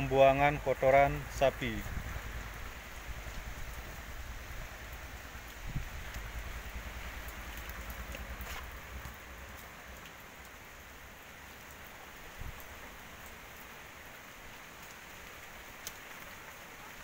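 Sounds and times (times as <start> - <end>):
light rain hissing: 0.0 - 17.0
raindrops ticking: 0.0 - 17.0.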